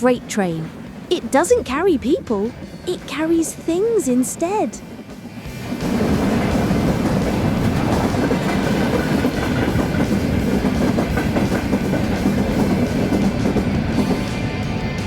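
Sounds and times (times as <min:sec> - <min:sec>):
train running along rails: 0:00.0 - 0:15.0.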